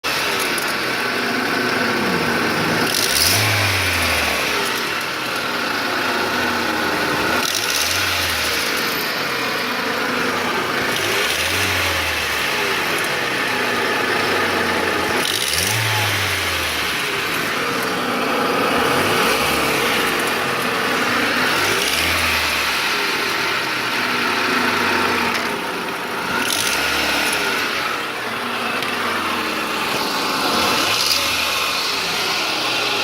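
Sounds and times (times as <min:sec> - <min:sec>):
car engine revving with knock: 0:00.0 - 0:33.0.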